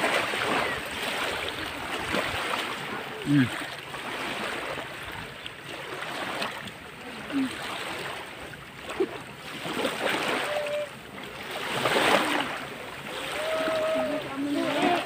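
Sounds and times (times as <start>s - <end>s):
small waves washing in: 0.0s - 15.0s.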